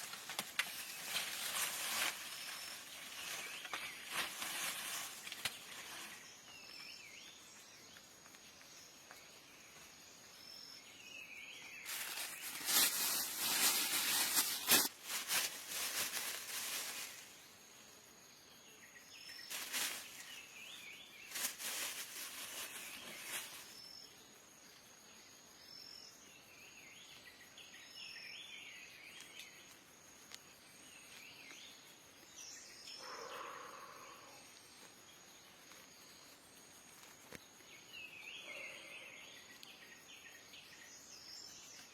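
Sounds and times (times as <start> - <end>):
insect drone: 0.0 - 41.9.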